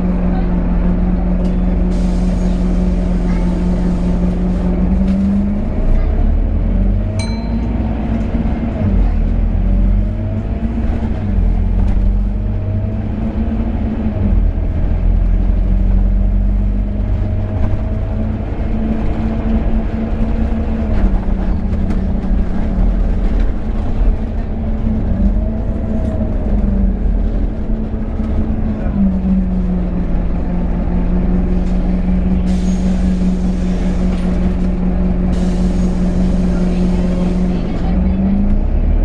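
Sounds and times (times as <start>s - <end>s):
bus engine rumble: 0.0s - 39.0s.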